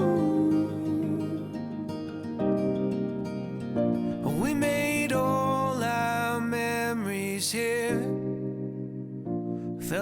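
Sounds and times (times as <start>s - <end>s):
slow song instrumental music: 0.0s - 10.0s.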